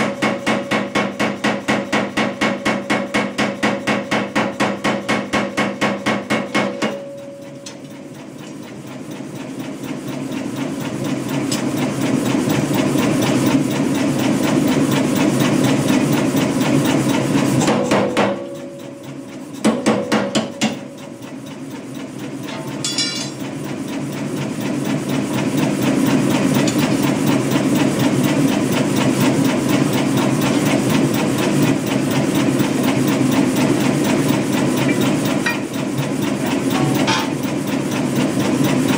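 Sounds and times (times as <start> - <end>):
power hammer pounding steel: 0.0 - 8.4, 9.8 - 38.9.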